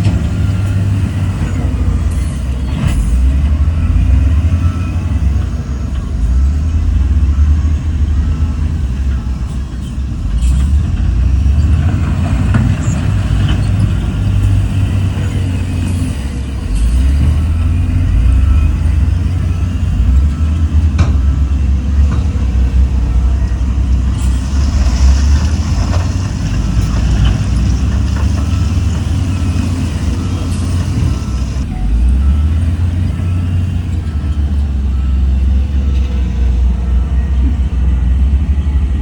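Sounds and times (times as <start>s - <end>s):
heavy diesel engine rumbling: 0.0s - 39.0s.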